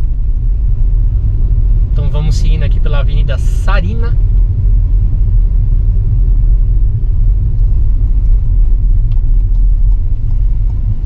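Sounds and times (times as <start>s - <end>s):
car interior driving rumble: 0.0s - 11.0s.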